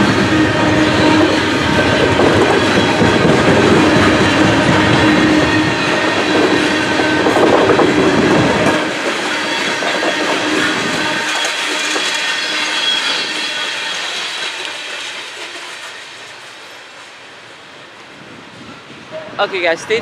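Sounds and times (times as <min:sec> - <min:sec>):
ringing wheel squeal: 0:00.0 - 0:16.9
train wheels rumbling on rails: 0:00.0 - 0:20.0
clickety-clack over rail joints: 0:01.0 - 0:19.4.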